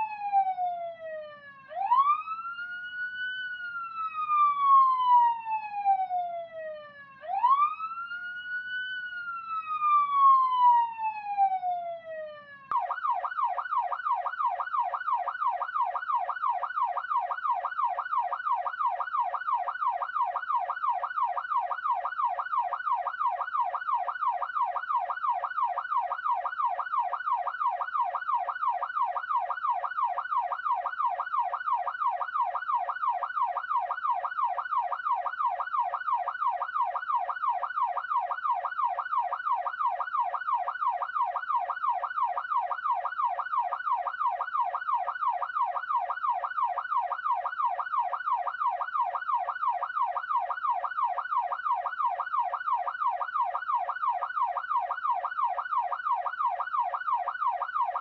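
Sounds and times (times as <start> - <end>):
police siren yelping: 0.0 - 58.0.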